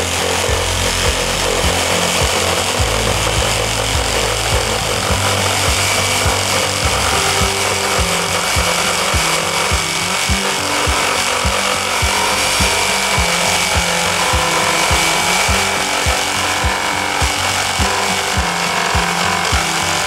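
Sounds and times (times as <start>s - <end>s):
electric jigsaw cutting wood: 0.0s - 20.0s.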